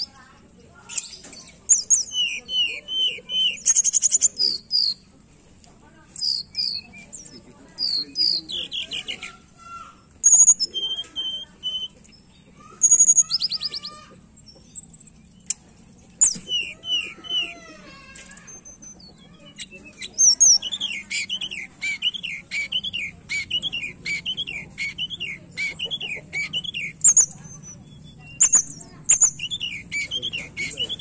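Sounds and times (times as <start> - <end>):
bird singing whistles and chirps: 0.9 - 5.0, 6.2 - 9.4, 10.2 - 12.0, 12.6 - 15.2, 16.2 - 17.5, 18.4 - 31.0.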